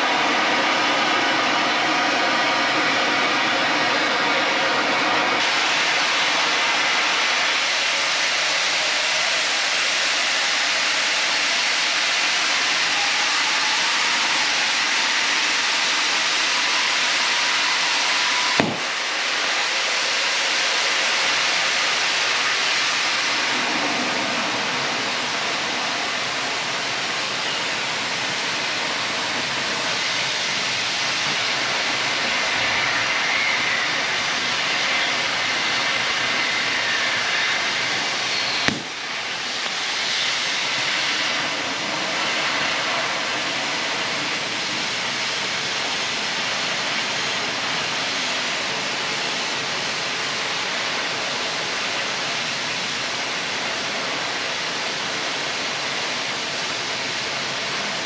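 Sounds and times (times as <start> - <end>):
cutting torch hissing: 5.4 - 58.0.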